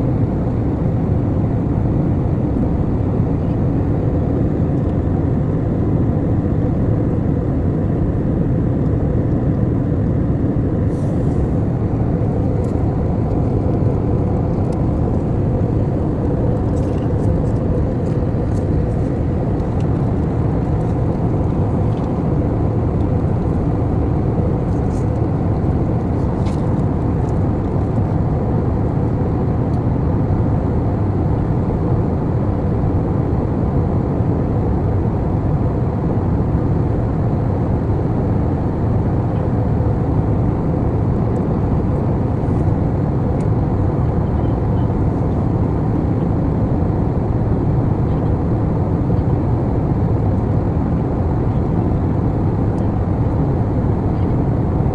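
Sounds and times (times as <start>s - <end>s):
airliner cabin roar: 0.0s - 54.9s
faint steady hum: 0.0s - 54.9s.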